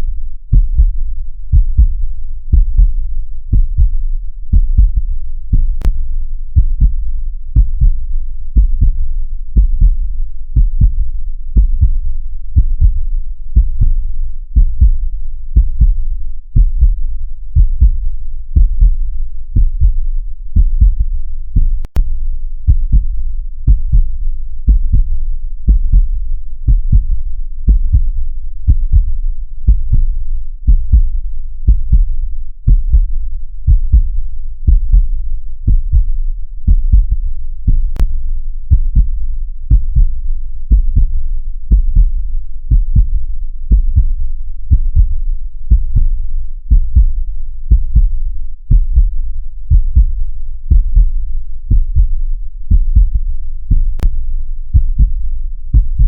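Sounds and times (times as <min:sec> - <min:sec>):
heartbeat thumps: 0:00.5 - 0:06.0, 0:06.6 - 0:07.0, 0:07.6 - 0:08.0, 0:08.6 - 0:09.0, 0:09.6 - 0:10.0, 0:10.6 - 0:12.0, 0:12.6 - 0:14.0, 0:14.6 - 0:15.0, 0:15.6 - 0:16.0, 0:16.6 - 0:22.1, 0:22.7 - 0:30.1, 0:30.7 - 0:38.1, 0:38.7 - 0:56.0.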